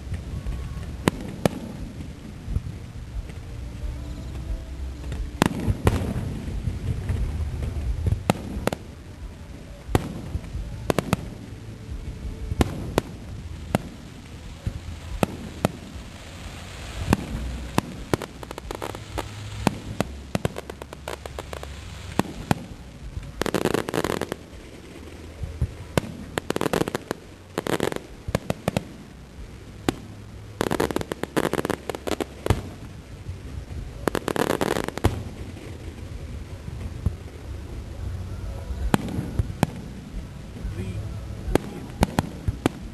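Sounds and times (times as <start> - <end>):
fireworks bangs: 0.0 - 42.9
fireworks crackling: 0.0 - 42.9
low rumbling: 0.0 - 42.9.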